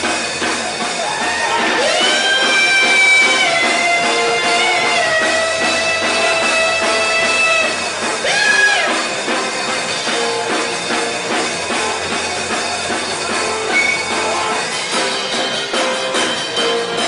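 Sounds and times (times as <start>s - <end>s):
drum kit steady beat: 0.0s - 17.0s
electric guitar: 0.0s - 17.0s.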